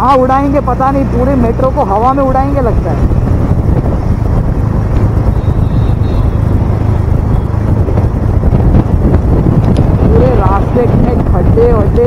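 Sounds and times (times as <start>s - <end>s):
motorcycle engine rumble: 0.0s - 12.0s
wind noise on microphone: 0.0s - 12.0s.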